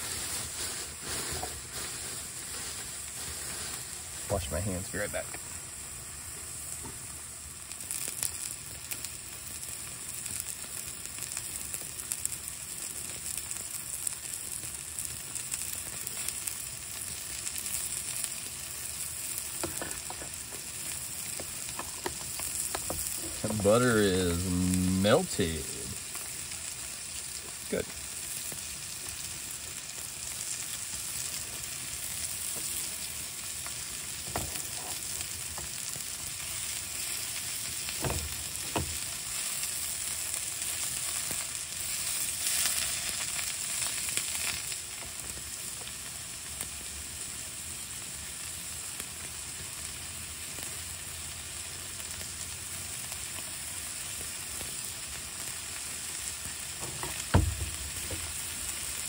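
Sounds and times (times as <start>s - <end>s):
patties and onions sizzling in pan: 0.0s - 59.0s.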